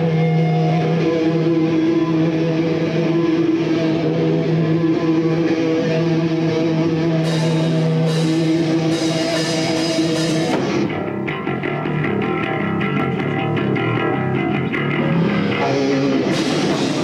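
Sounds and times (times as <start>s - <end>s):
drums keeping a beat: 0.0s - 17.0s
rock band playing: 0.0s - 17.0s.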